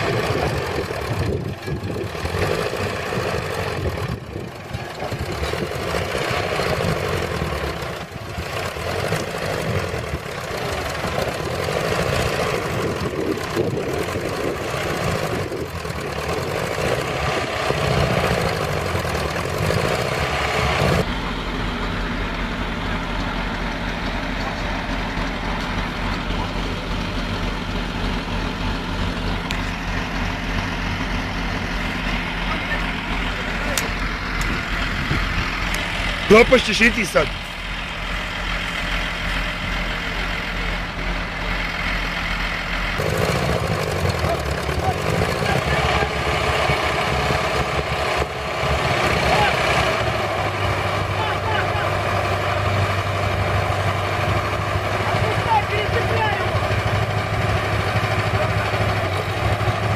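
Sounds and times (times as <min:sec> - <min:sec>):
bulldozer diesel engine running: 0:00.0 - 0:59.9
rough machinery engine: 0:00.0 - 0:59.9.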